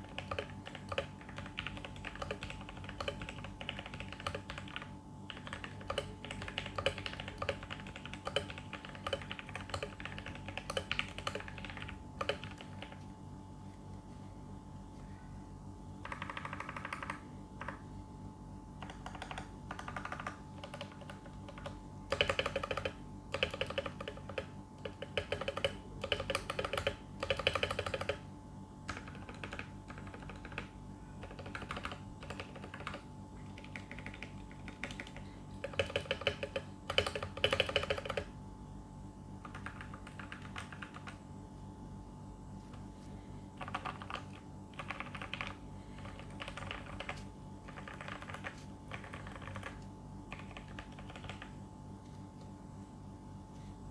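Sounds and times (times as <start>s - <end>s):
mechanical keyboard typing: 0.0s - 13.0s, 16.0s - 17.8s, 18.8s - 28.3s, 28.9s - 38.4s, 39.4s - 41.2s, 43.6s - 51.6s.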